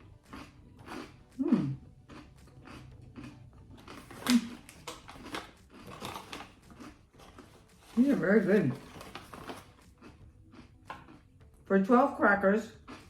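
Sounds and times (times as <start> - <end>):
person chewing crunchy crackers: 0.0 - 11.6, 12.8 - 13.0.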